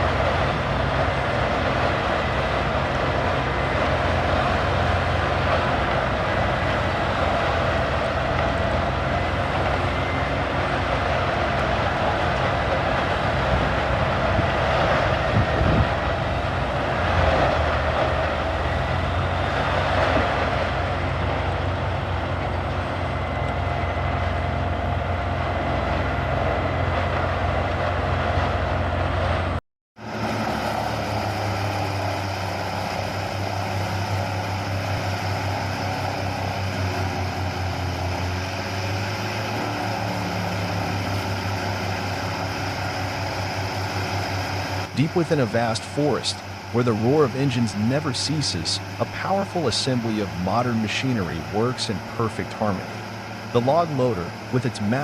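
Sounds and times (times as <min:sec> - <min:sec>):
grinder grinding logs: 0:00.0 - 0:55.0.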